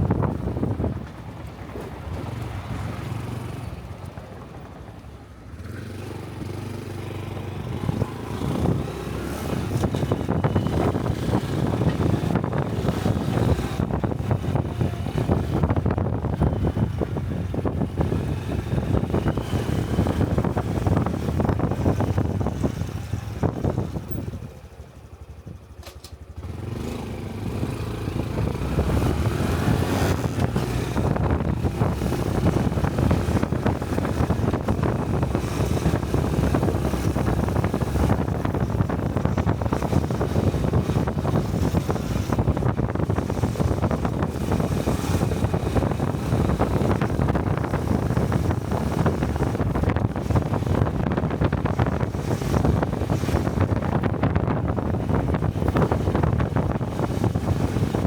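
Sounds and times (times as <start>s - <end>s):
wind rushing over microphone: 0.0s - 58.0s
small motorcycle engine: 5.5s - 58.0s.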